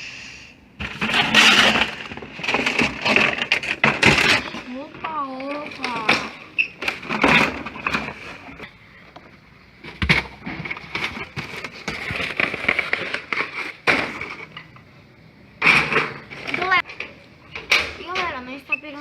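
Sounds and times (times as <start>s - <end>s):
objects being handled and moved: 0.8s - 19.0s.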